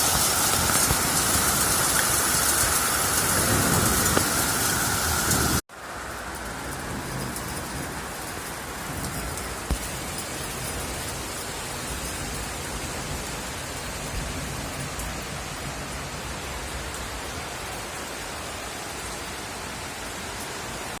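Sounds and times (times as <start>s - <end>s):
rain and hail falling: 0.0s - 21.0s.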